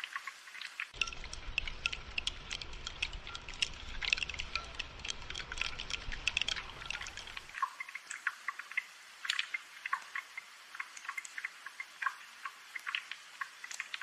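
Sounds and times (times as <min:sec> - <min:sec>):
raindrops ticking and pattering: 0:00.0 - 0:14.0.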